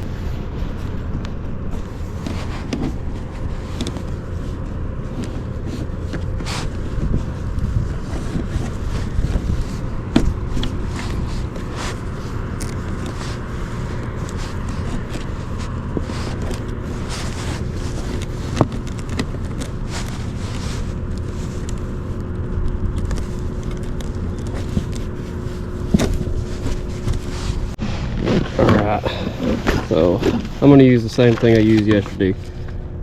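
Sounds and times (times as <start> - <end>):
wind buffeting microphone: 0.0 - 31.2
faint steady hum: 0.0 - 33.0.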